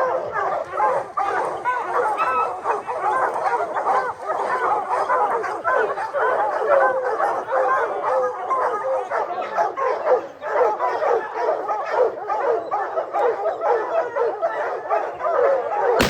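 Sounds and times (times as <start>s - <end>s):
hounds baying: 0.0s - 16.0s.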